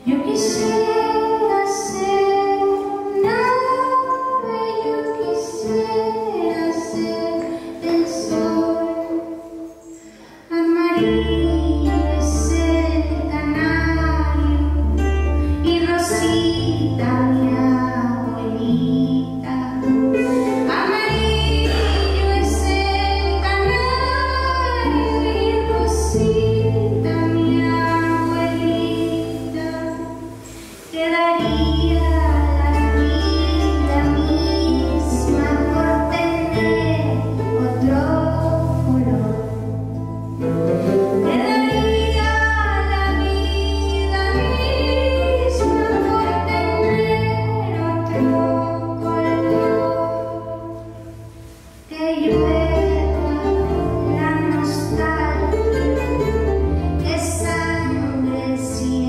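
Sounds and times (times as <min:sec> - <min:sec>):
woman singing: 0:00.0 - 0:51.0, 0:51.9 - 0:59.0
strummed ukuleles: 0:00.0 - 0:59.0.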